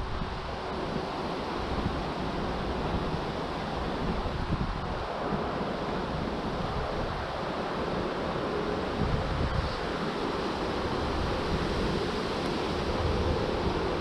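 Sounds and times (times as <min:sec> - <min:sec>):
wind blowing over microphone: 0:00.0 - 0:14.0.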